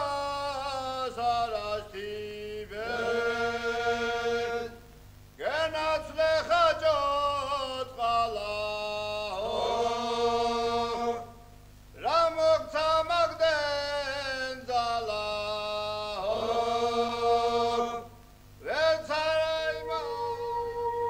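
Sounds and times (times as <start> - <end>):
person singing unaccompanied chant: 0.0 - 4.8, 5.4 - 11.4, 12.0 - 21.0.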